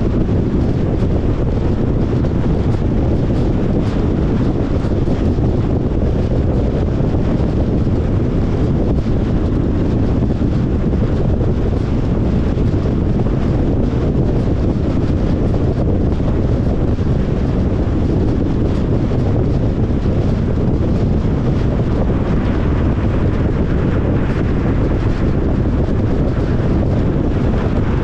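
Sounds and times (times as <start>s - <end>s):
tyre and wind noise: 0.0s - 28.0s.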